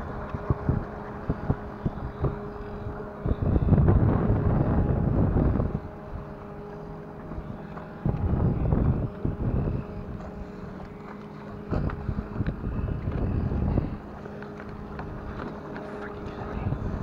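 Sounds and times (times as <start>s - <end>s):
outboard motor idling: 0.0s - 17.0s
wind buffeting microphone: 0.0s - 17.0s.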